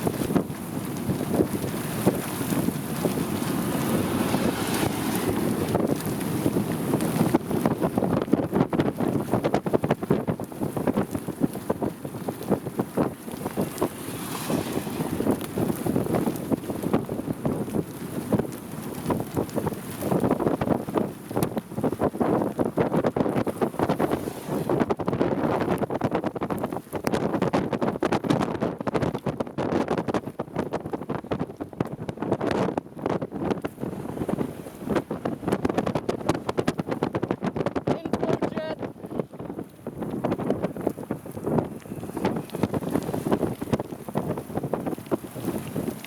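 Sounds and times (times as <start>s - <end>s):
strong gusty wind buffeting microphone: 0.0s - 46.0s.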